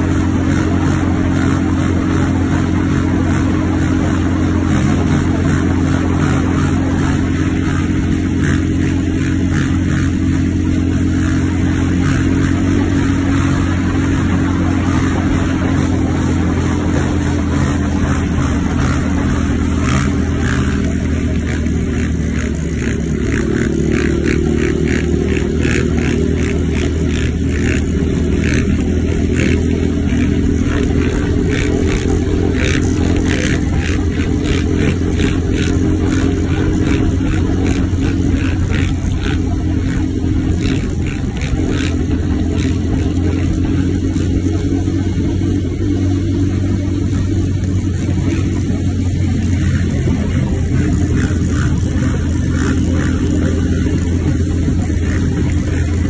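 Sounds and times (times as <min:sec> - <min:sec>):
vehicle engines running: 0:00.0 - 0:56.0
wind and road noise: 0:00.0 - 0:56.0.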